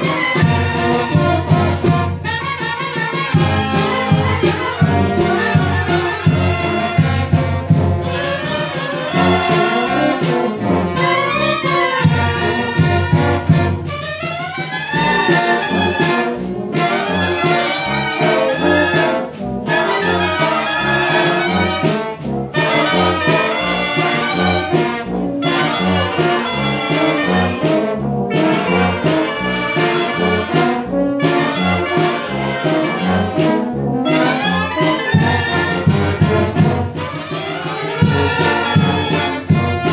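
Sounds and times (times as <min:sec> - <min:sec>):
wind band playing lively tune: 0:00.0 - 0:39.9.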